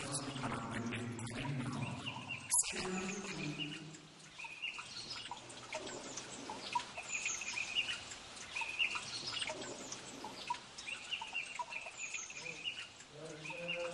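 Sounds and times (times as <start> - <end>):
birds twittering: 0.0 - 13.9
thin high bird calls: 2.0 - 13.9.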